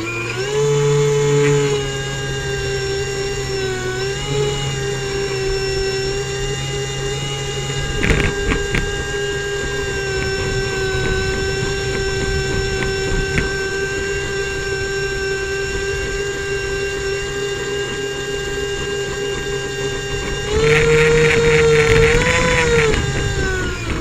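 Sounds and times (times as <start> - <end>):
airboat engine and propeller: 0.0 - 24.0.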